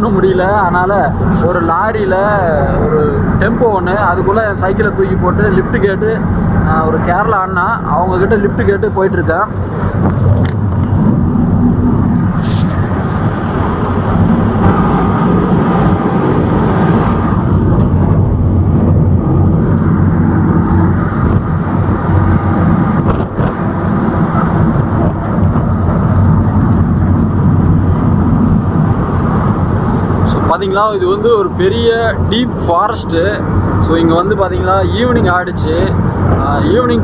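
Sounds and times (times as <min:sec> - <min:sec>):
road noise: 0:00.0 - 0:37.0
truck engine running: 0:00.0 - 0:37.0.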